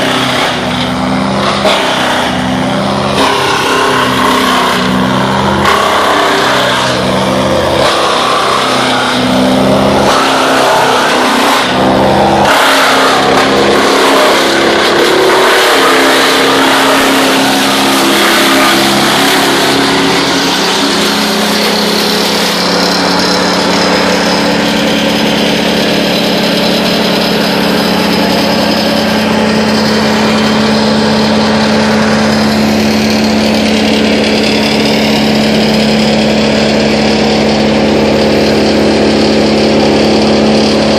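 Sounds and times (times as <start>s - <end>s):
chips blowing out of chute: 0.0s - 40.9s
wood chipper grinding branches: 0.0s - 40.9s.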